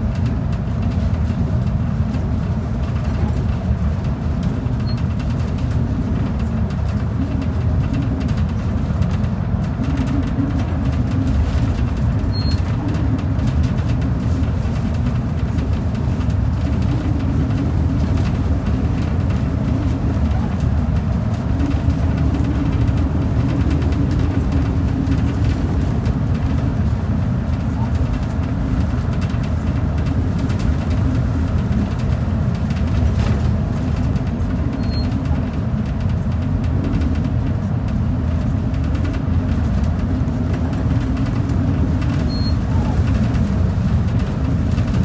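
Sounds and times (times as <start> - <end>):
bus engine and tyres rumbling: 0.0 - 45.0.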